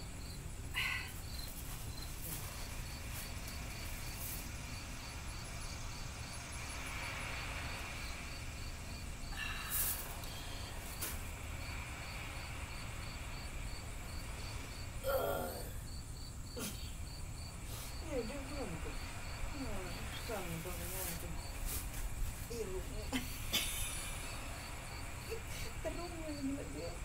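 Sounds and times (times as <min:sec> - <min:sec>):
insect chirping: 0:00.0 - 0:27.0
low background rumble: 0:00.0 - 0:27.0.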